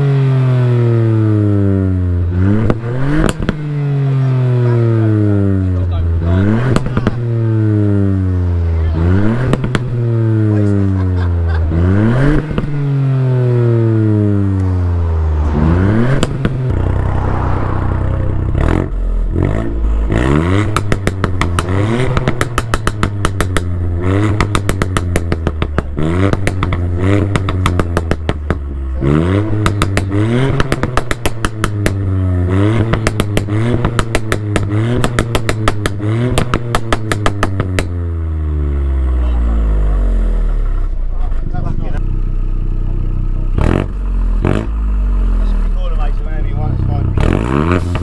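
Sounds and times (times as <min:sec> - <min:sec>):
car engine revving: 0:00.0 - 0:48.0
exhaust pops and crackles: 0:02.5 - 0:03.8, 0:05.7 - 0:07.6, 0:09.0 - 0:10.8, 0:12.2 - 0:13.1, 0:14.4 - 0:17.2, 0:18.0 - 0:48.0.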